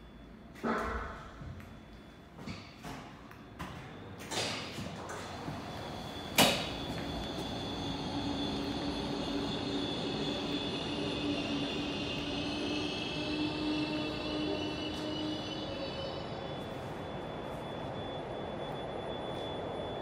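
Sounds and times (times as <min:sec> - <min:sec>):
funicular machinery humming and whining: 0:00.0 - 0:20.0.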